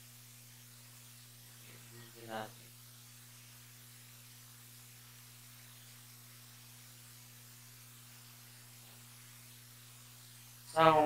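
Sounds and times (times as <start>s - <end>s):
faint low hum with hiss: 0.0s - 11.0s.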